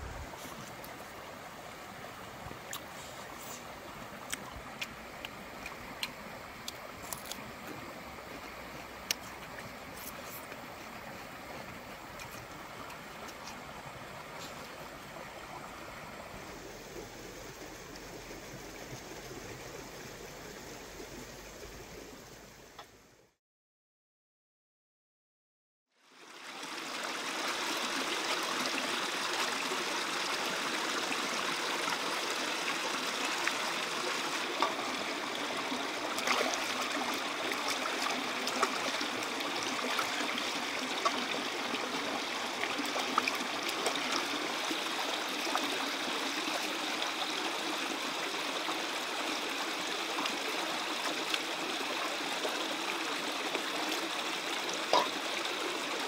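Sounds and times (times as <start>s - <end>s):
stream running over rocks: 0.0s - 23.2s, 26.0s - 56.0s.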